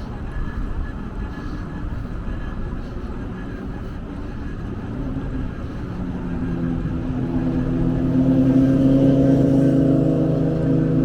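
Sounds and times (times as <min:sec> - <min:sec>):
droning hum: 0:00.0 - 0:11.0
motor running with low rumble: 0:00.0 - 0:11.0.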